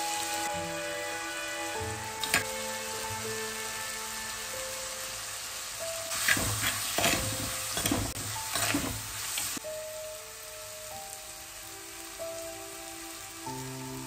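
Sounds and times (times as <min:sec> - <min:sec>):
hot oil sizzling: 0:00.0 - 0:14.0.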